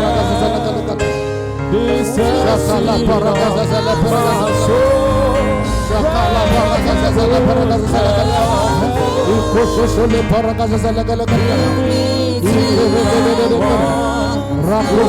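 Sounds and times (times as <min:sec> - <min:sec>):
instrumental backing: 0:00.0 - 0:15.0
voices singing gospel: 0:00.0 - 0:15.0.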